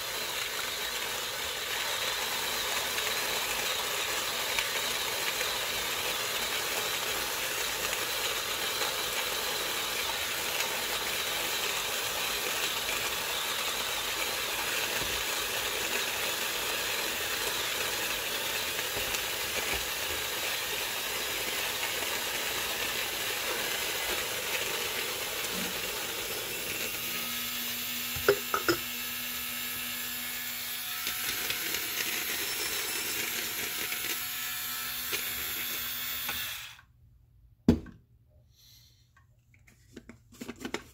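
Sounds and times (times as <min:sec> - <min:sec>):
coffee grinder grinding beans: 0:00.0 - 0:36.9.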